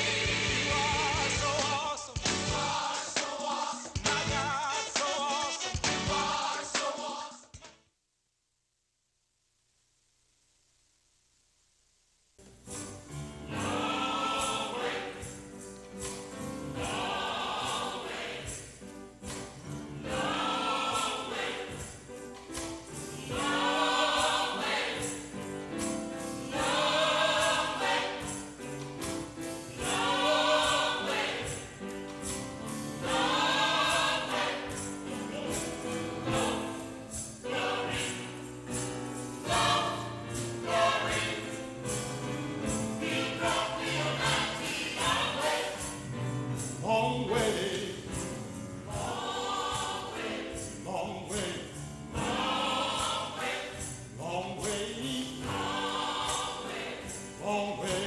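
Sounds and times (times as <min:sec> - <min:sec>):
church choir singing gospel: 0:00.0 - 0:07.6, 0:12.8 - 0:58.0.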